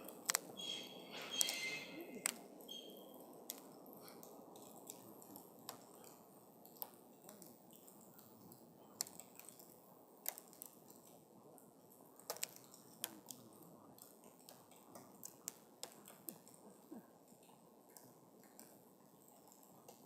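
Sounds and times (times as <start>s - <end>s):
campfire crackling and popping: 0.0s - 20.0s
soft hiss of burning fire: 0.0s - 20.0s.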